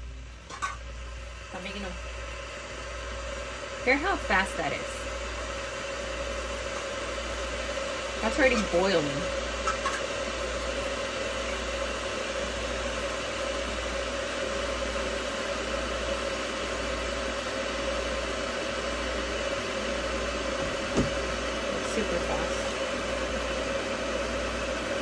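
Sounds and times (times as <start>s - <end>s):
boiling water hissing in kettle: 0.0s - 25.0s.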